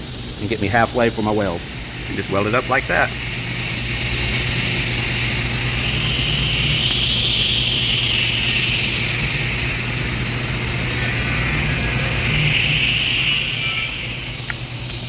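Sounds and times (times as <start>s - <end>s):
welding arc hissing: 0.0s - 15.0s.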